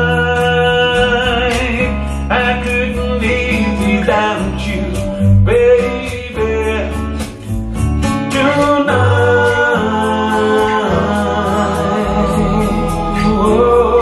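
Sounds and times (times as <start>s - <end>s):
man singing: 0.0s - 7.5s, 8.1s - 14.0s
guitar: 0.0s - 14.0s
steady bass: 0.0s - 14.0s.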